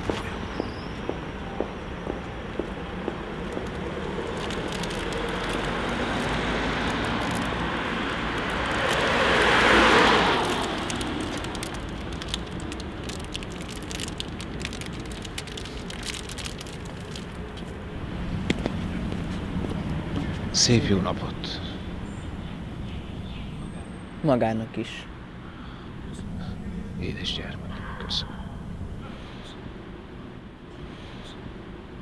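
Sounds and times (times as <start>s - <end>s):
passing car: 0.0s - 32.0s.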